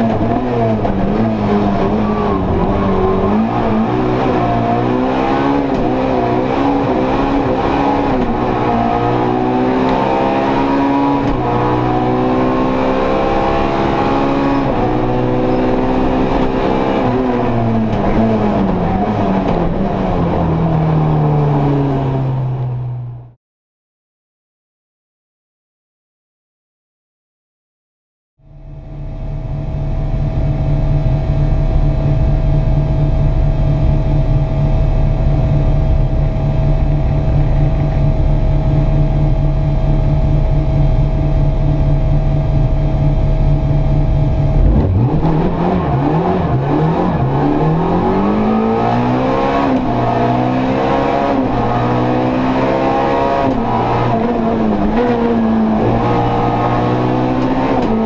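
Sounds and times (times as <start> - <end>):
rally car engine revving: 0.0 - 23.3, 28.6 - 58.0.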